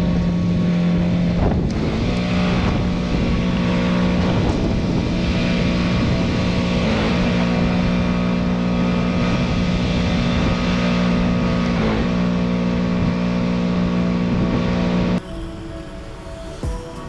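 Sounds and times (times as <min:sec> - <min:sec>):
pressure washer engine drone: 0:00.0 - 0:15.2.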